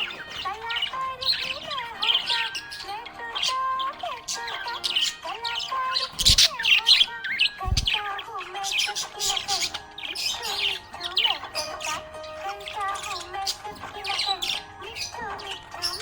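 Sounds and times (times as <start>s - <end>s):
background music: 0.0s - 16.0s
budgerigars chirping: 0.0s - 16.0s.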